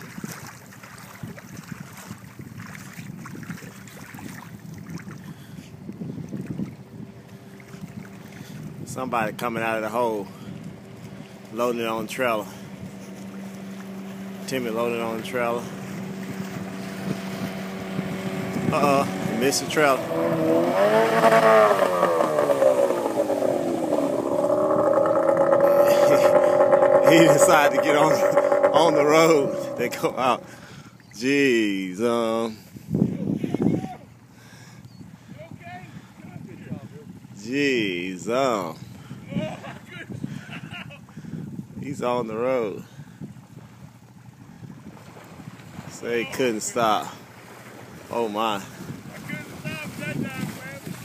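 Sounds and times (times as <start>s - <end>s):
wind buffeting microphone: 0.0s - 34.3s, 34.9s - 51.0s
distant outboard motor: 0.0s - 51.0s.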